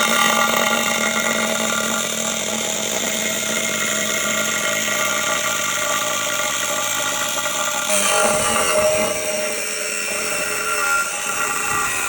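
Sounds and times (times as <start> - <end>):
power tool whining: 0.0 - 12.0.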